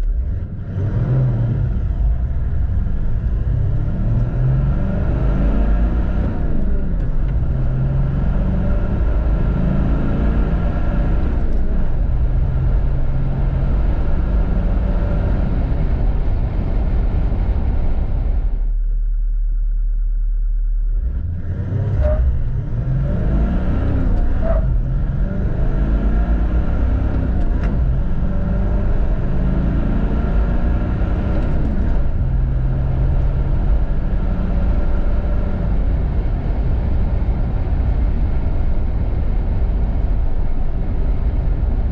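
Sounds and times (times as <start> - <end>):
diesel engine accelerating: 0.0 - 41.9.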